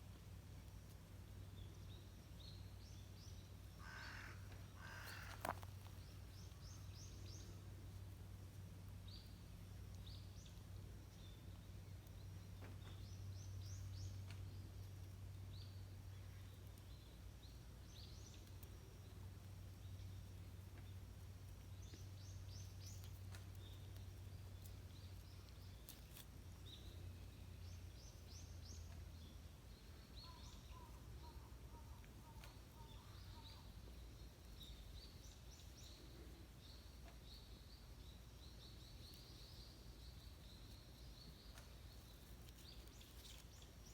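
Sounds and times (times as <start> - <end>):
low steady hum: 0.0 - 43.9
small birds chirping: 0.0 - 43.9.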